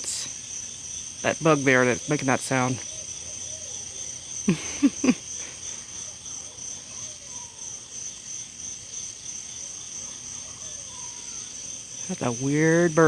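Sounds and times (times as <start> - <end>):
crickets and insects droning: 0.0 - 13.0.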